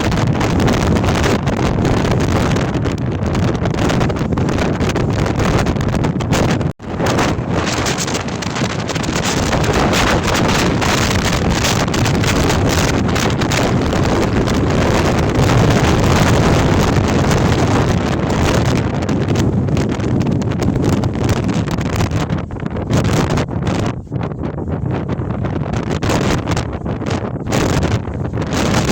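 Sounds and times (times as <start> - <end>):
storm wind buffeting microphone: 0.0 - 28.9.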